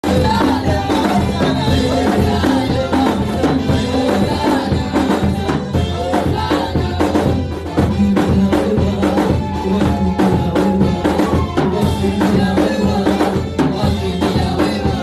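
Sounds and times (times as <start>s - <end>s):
drums and shakers beat: 0.0s - 15.0s
singing: 0.0s - 15.0s.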